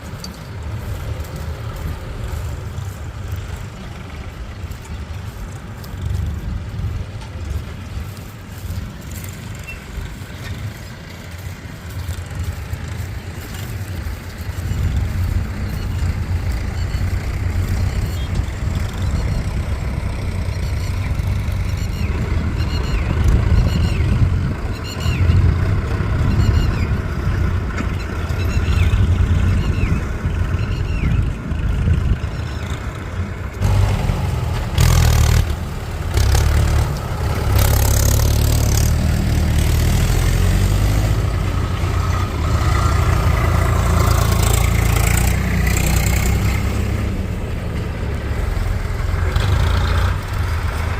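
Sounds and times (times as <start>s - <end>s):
heavy diesel machinery engine: 0.0s - 50.9s.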